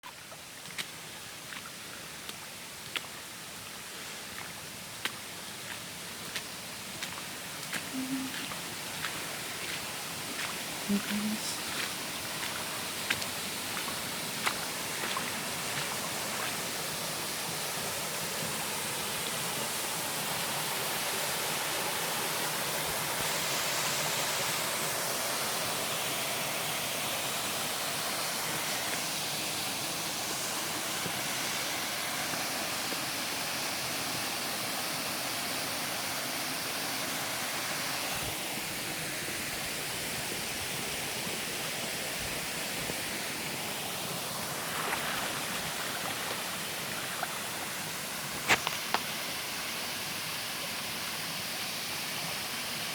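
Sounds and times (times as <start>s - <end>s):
river water rushing: 0.4s - 52.9s.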